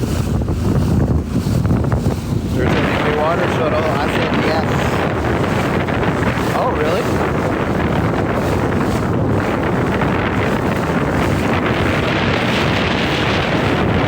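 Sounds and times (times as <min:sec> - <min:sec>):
rush of water and waves: 0:00.0 - 0:14.0
wind buffeting microphone: 0:00.0 - 0:14.0.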